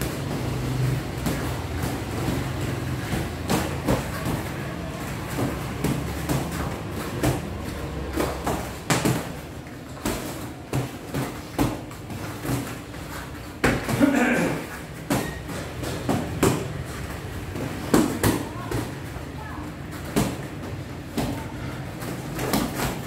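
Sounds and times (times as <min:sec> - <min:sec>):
boxing gloves thudding: 0:00.0 - 0:19.0, 0:20.0 - 0:23.0.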